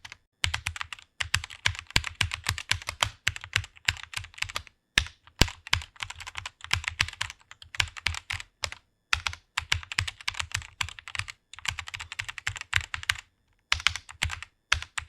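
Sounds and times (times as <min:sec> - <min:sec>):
computer keyboard typing: 0:00.0 - 0:15.0.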